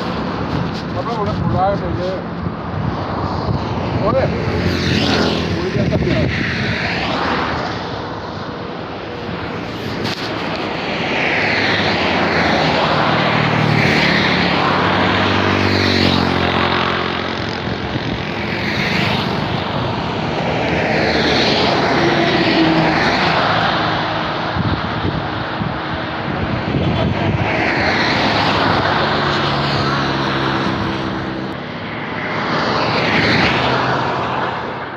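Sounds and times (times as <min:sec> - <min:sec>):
vehicles passing: 0:00.0 - 0:34.9.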